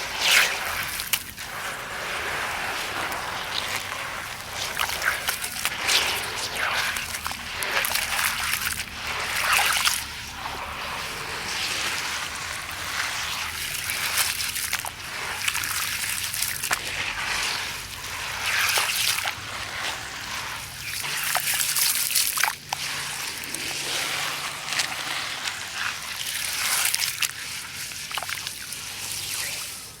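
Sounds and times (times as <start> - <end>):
sand and concrete crumbling: 0.0 - 29.9
grains trickling down: 0.1 - 29.9.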